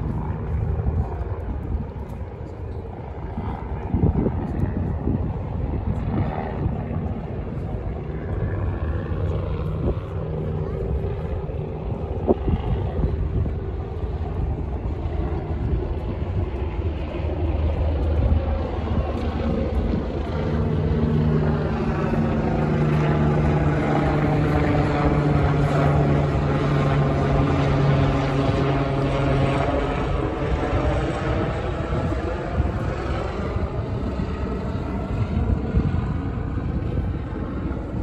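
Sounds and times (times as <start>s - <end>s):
helicopter flying overhead: 0.0s - 38.0s.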